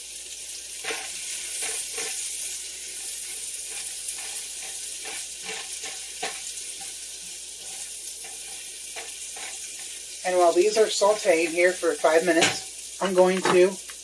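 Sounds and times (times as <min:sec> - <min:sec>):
vegetables sizzling in butter: 0:00.0 - 0:14.0.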